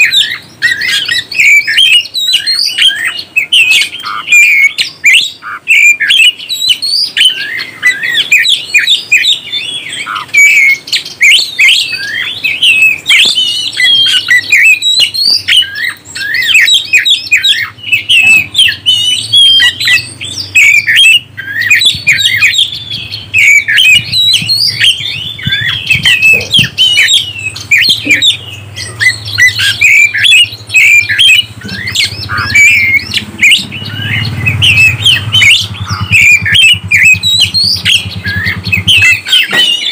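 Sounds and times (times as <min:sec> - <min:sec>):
bird singing fast song: 0:00.0 - 0:39.9.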